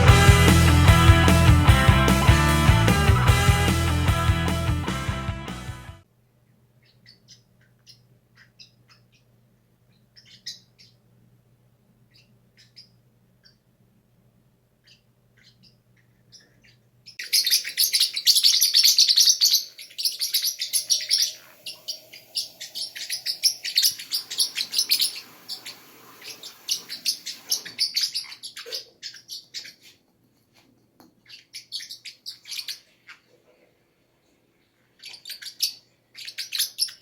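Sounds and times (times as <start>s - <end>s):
parrots chirping: 0.0s - 5.0s, 6.8s - 11.0s, 12.1s - 13.6s, 14.8s - 30.0s, 31.2s - 33.4s, 34.8s - 37.0s.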